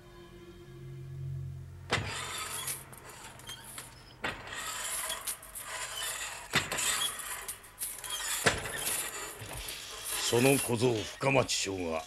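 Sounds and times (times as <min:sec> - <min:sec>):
cable and pulleys whirring: 0:01.9 - 0:12.0.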